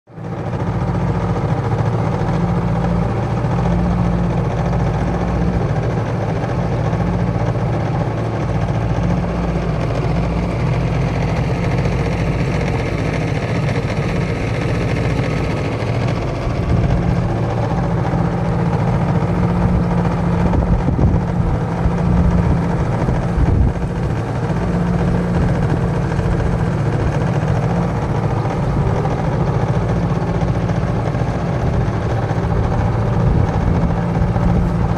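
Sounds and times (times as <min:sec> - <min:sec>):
outboard motor running: 0:00.1 - 0:34.9.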